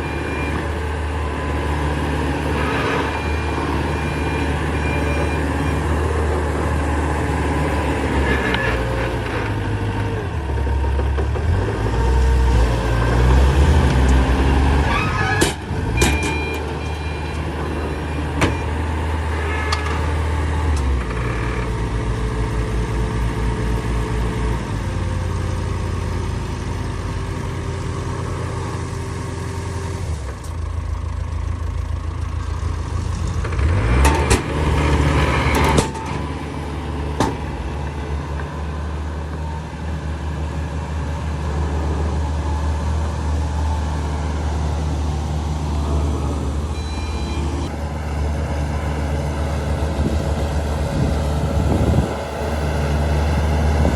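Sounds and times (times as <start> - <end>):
heavy diesel engine revving: 0.0 - 30.1, 32.1 - 53.9.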